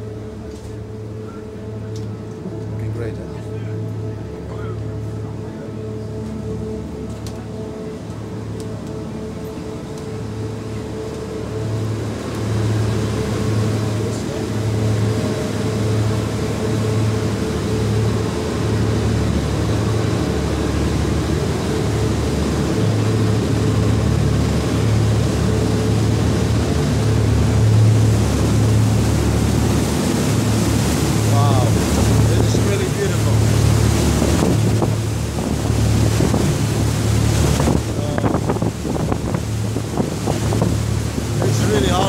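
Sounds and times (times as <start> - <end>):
ferry engines throbbing hum: 0.0 - 42.0
rushing water noise: 0.0 - 42.0.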